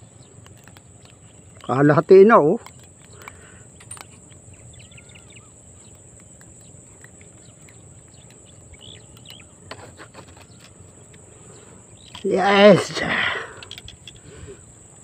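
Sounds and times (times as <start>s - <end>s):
faint bird chirps: 0.0s - 14.9s
thin steady high whine: 0.0s - 15.0s.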